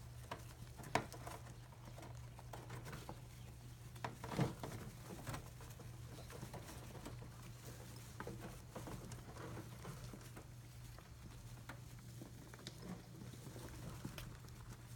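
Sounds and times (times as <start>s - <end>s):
rats tapping and scratching: 0.0s - 14.9s.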